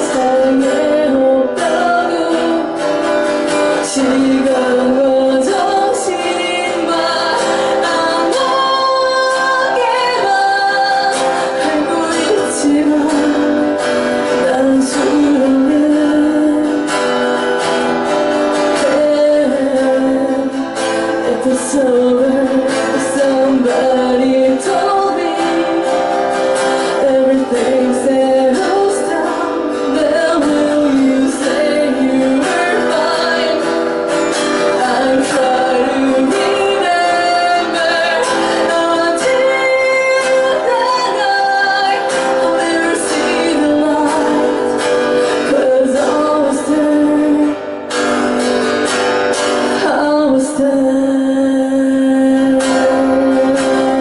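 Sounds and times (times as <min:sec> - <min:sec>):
acoustic guitar strumming: 0:00.0 - 0:54.0
woman singing: 0:00.0 - 0:54.0.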